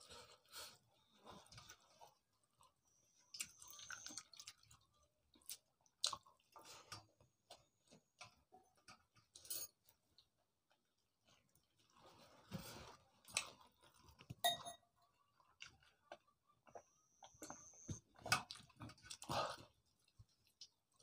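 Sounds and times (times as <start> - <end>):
soft chewing: 0.0 - 21.0
wet squelches of mixing rice: 0.0 - 21.0.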